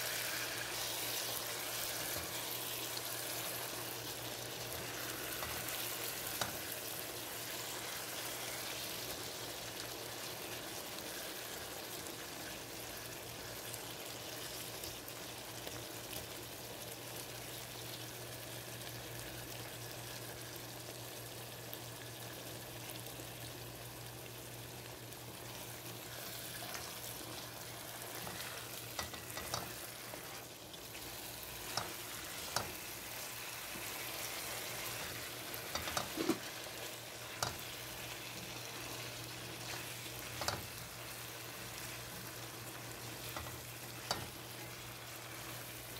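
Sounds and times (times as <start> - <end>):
curry sizzling in a pan: 0.0 - 45.9.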